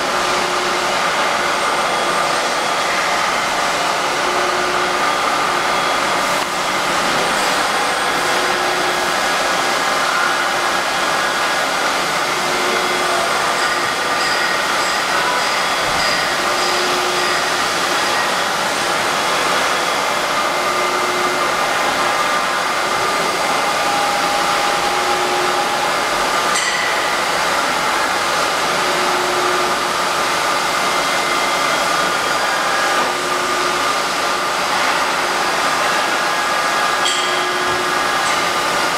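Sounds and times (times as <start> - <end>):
milling machine running: 0.0 - 38.9.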